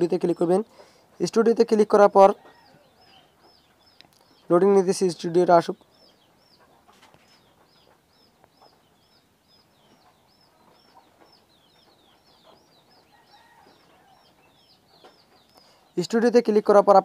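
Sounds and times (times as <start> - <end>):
faint high bird chirps: 2.4 - 17.0.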